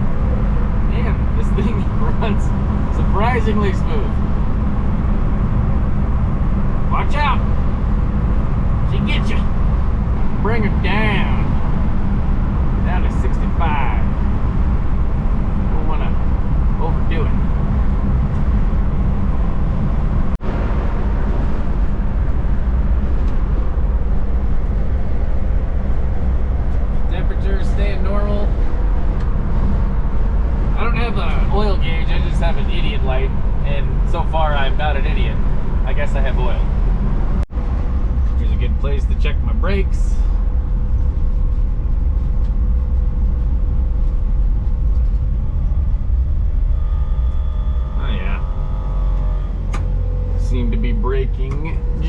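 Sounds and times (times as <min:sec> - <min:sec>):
car engine cruising: 0:00.0 - 0:52.0
faint steady hum: 0:00.0 - 0:52.0
road noise: 0:00.0 - 0:52.0.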